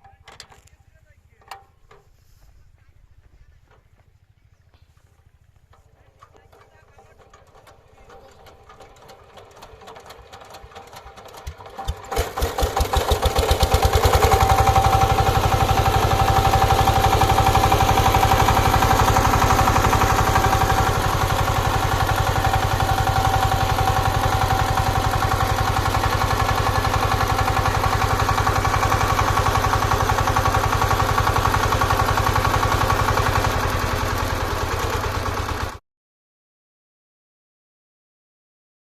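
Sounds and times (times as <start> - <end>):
tiller engine chugging: 0.0 - 35.8.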